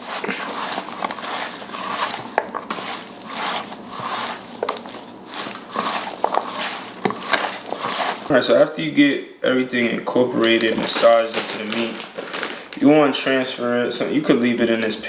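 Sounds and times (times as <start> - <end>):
hands squishing food in a pan: 0.0 - 9.1, 10.1 - 13.4.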